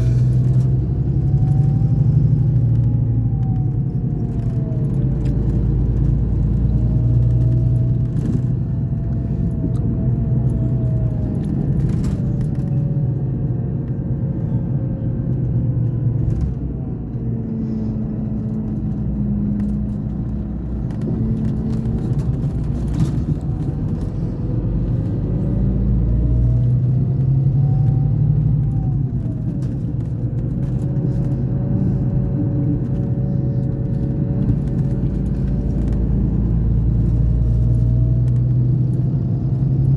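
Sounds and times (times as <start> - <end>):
coach engine rumbling: 0.0 - 39.7.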